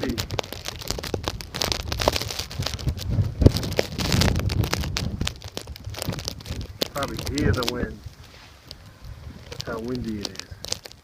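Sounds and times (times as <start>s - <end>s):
sharp crackling clicks: 0.0s - 11.0s
wind gusting on microphone: 0.0s - 11.0s.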